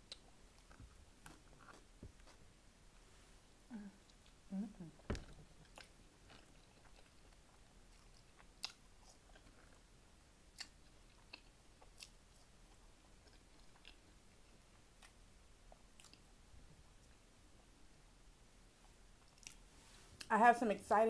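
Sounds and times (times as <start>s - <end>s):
person chewing food: 0.0s - 2.4s, 3.9s - 17.7s, 18.8s - 20.3s.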